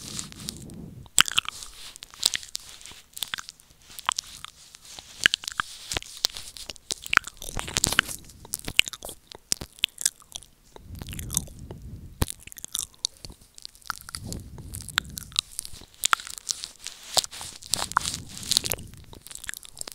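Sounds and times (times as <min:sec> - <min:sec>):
wet mouth clicks and smacks: 0:00.4 - 0:19.9.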